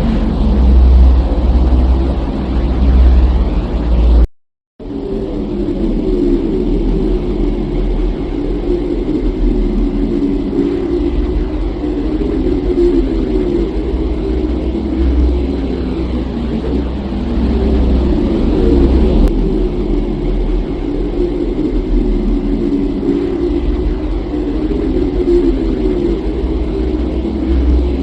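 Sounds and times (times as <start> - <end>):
deep rumbling drone: 0.0 - 28.0
faint high sweeps: 0.0 - 28.0.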